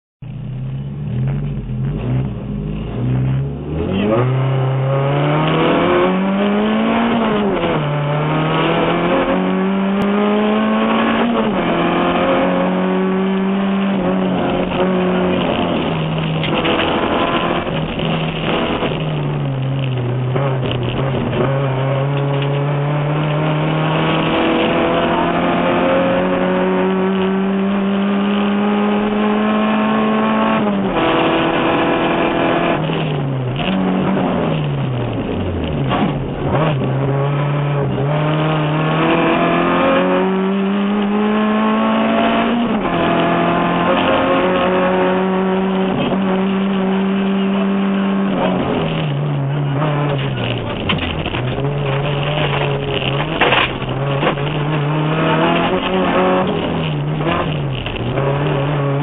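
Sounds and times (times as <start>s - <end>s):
rally car engine revving: 0.2s - 59.0s.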